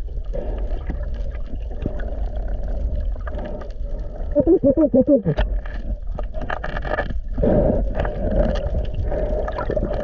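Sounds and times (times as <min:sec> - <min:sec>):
muffled rushing water underwater: 0:00.0 - 0:10.0.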